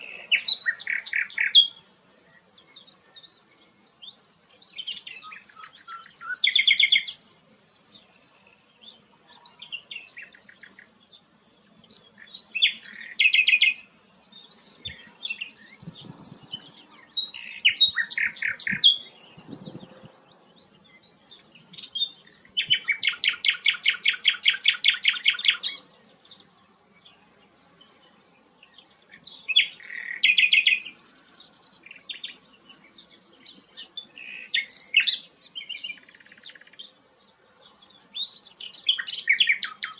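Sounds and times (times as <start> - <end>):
flycatcher singing high chirps: 0.0 - 8.7, 9.4 - 39.9.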